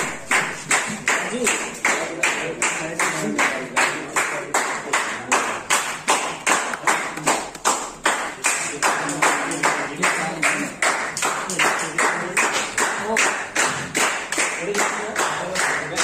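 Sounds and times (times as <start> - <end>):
people clapping in rhythm: 0.0 - 16.0.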